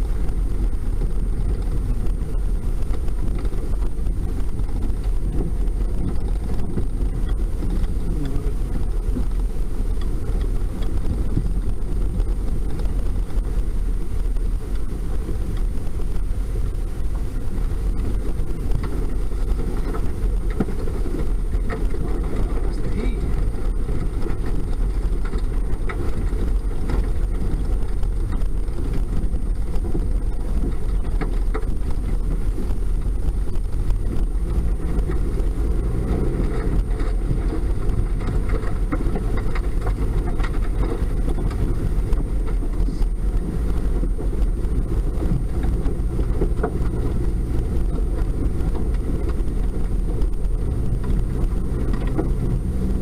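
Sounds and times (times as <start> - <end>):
faint ticks: 0.0 - 53.0
pickup truck engine rumble: 0.0 - 53.0.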